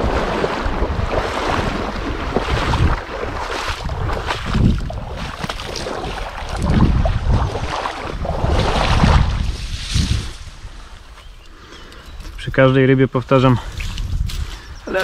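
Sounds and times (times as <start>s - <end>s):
wind buffeting microphone: 0.0s - 12.6s, 13.4s - 15.0s.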